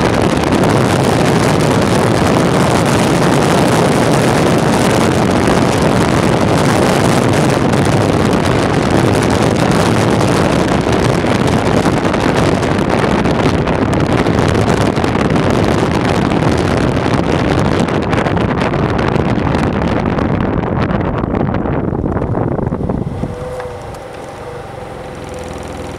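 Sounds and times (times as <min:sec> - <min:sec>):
skateboard wheels rolling on asphalt: 0:00.0 - 0:25.9
wind buffeting microphone: 0:00.0 - 0:25.9.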